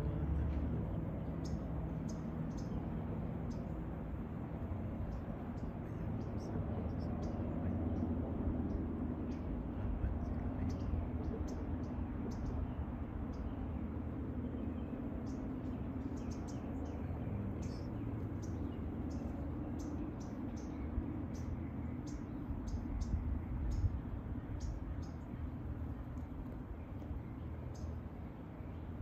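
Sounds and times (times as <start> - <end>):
birds chirping: 0.0 - 29.0
steady low rumble: 0.0 - 29.0.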